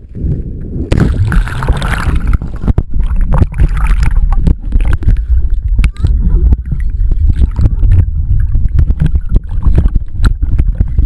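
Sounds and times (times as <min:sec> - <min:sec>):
muffled water splashing: 0:00.0 - 0:11.0.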